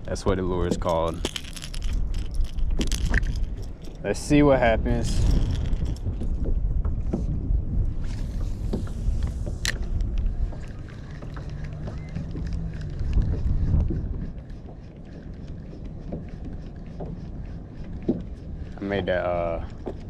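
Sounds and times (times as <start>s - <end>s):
water slapping kayak hull: 0.0s - 20.0s
wind buffeting microphone: 0.0s - 20.0s.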